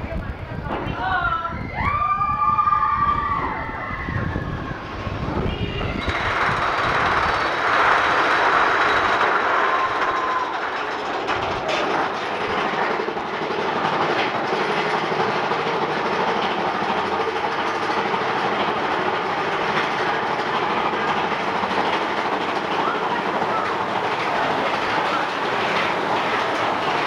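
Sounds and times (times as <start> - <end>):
roller coaster rattling clatter: 0.0 - 27.0.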